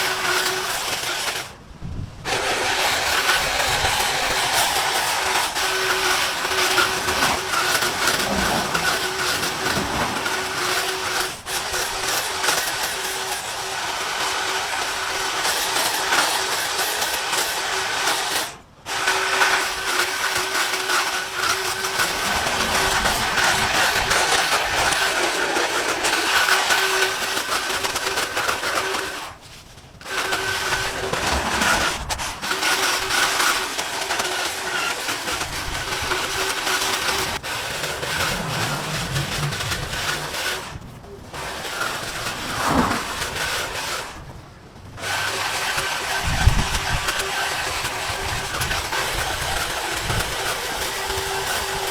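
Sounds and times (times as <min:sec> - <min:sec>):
lawn mower engine running: 0:02.2 - 0:51.9.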